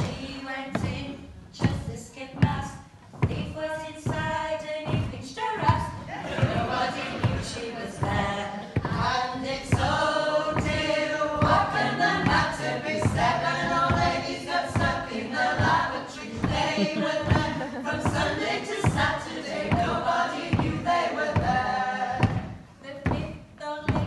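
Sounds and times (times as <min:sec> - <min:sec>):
women singing a cappella: 0:00.0 - 0:24.0.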